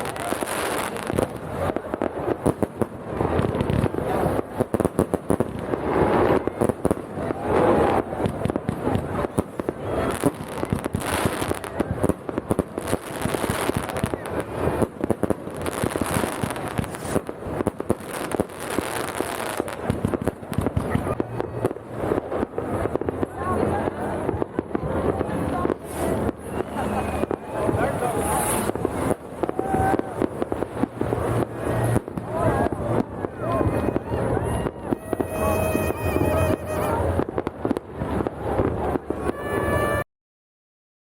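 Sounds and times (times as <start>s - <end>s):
faint voices: 0.0s - 40.0s
fireworks bangs and crackles: 0.0s - 40.0s.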